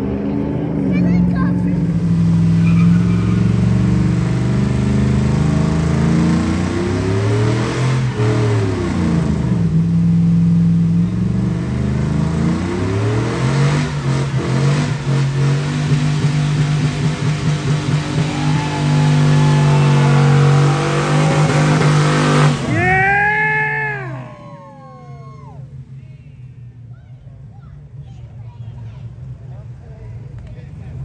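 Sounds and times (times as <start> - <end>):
truck engine revving hard: 0.0 - 25.8.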